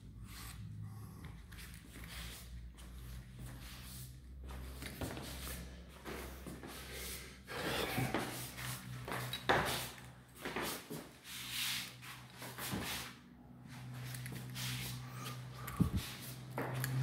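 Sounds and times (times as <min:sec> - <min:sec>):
footsteps shuffling and rustling: 0:00.4 - 0:07.2, 0:08.0 - 0:17.0.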